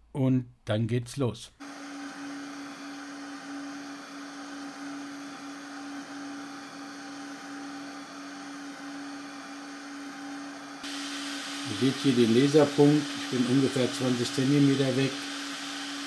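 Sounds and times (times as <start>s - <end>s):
fans whirring: 1.6s - 16.0s.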